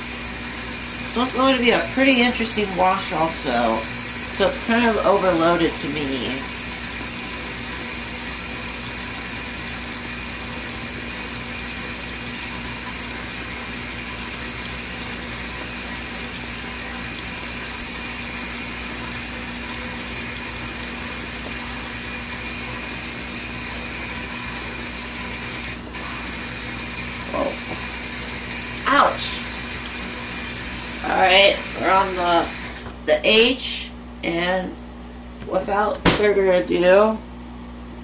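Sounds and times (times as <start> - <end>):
water pouring into tub: 0.0 - 32.8
steady hum: 0.0 - 38.0.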